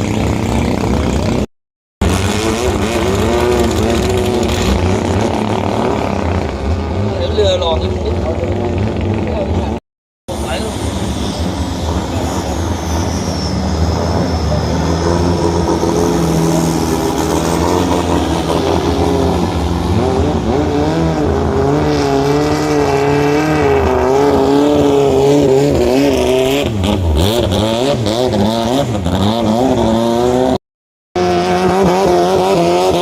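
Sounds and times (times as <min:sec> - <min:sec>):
boat engine at high revs: 0:00.0 - 0:30.6, 0:31.2 - 0:33.0.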